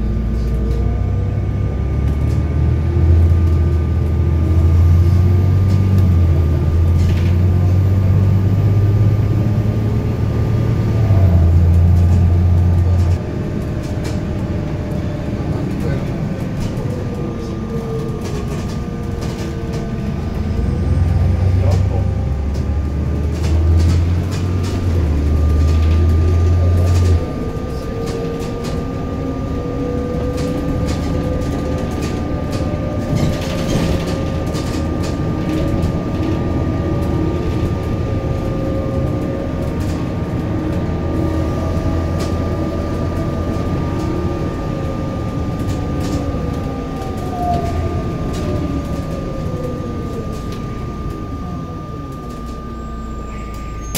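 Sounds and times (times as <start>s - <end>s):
bus engine and road noise: 0.0s - 53.9s
drivetrain whine: 0.0s - 53.9s
steady high whine: 3.0s - 53.9s.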